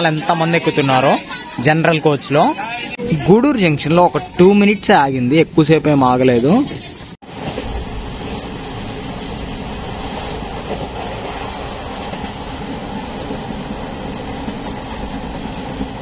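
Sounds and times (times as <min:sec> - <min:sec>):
passenger train running noise: 0:00.0 - 0:16.0.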